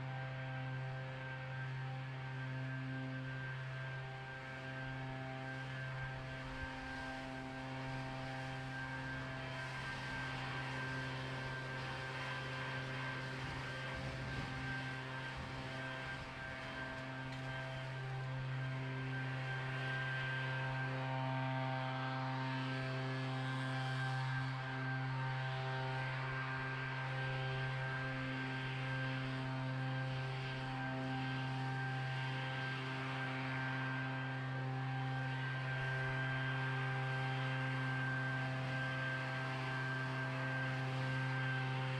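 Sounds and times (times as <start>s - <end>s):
small gas engine droning: 0.0s - 41.9s.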